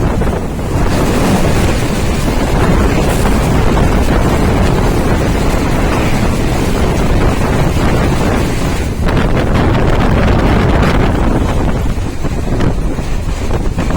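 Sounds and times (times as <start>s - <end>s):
train wheel rumble and rush: 0.0s - 13.9s
wind buffeting microphone: 0.0s - 13.9s.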